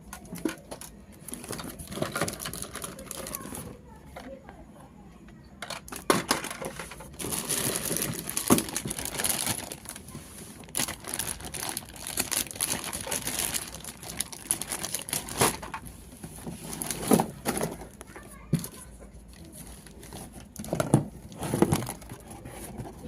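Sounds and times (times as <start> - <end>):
packaging crinkling: 0.1 - 3.8, 5.9 - 18.0, 18.6 - 22.3.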